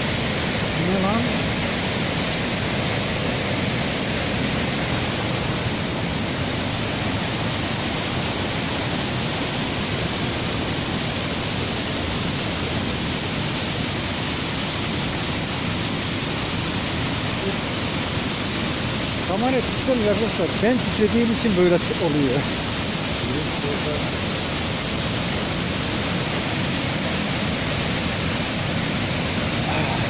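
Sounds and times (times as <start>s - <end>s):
waterfall rushing over rocks: 0.0s - 30.0s.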